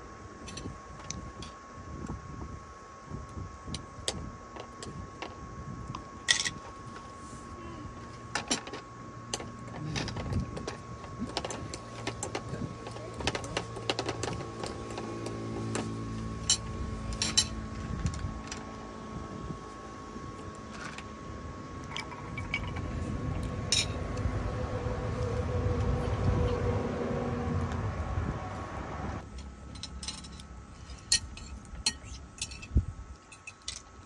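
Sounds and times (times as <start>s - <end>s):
faint steady hum: 0.0s - 34.0s
low mechanical drone: 0.0s - 34.0s.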